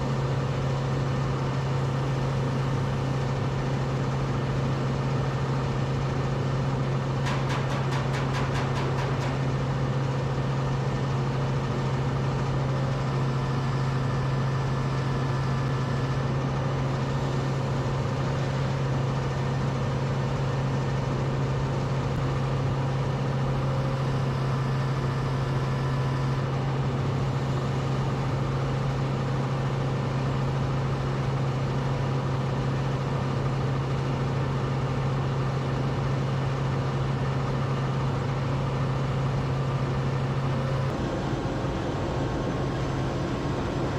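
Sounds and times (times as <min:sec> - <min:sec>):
low motor hum: 0:00.0 - 0:43.9.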